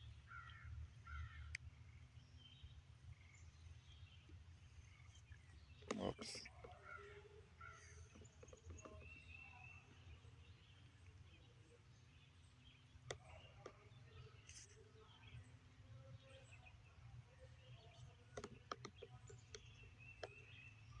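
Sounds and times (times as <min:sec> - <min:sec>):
distant bird chirps: 0:00.0 - 0:21.0.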